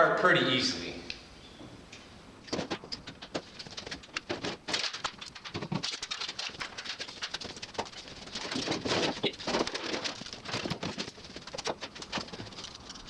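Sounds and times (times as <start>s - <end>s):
sheet metal clicks and clatter: 2.4s - 13.0s.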